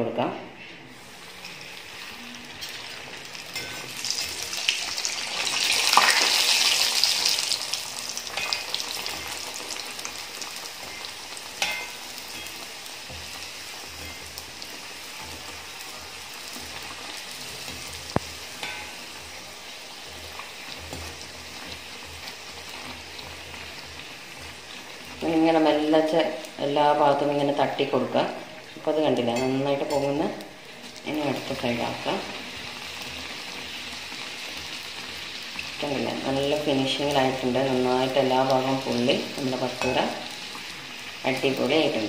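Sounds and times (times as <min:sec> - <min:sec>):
dough sizzling in hot oil: 0:00.9 - 0:42.0.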